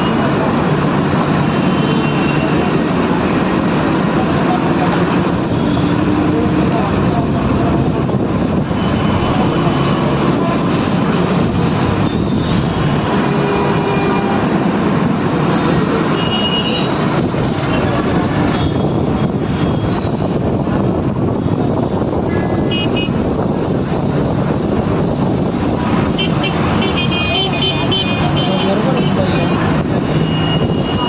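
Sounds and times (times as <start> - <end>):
passing vehicle engines and tyres: 0.0 - 31.0.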